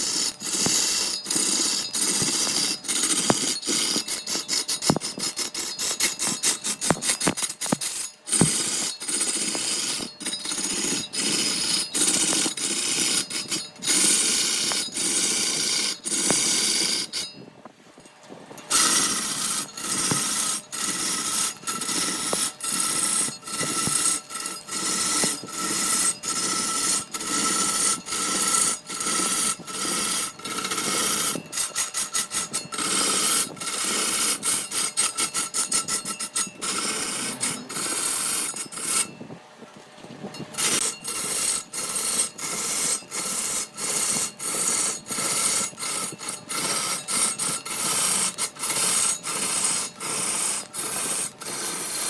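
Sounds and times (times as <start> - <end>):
hand tool rasping on wood: 0.0 - 17.3, 18.7 - 39.1, 40.5 - 52.0.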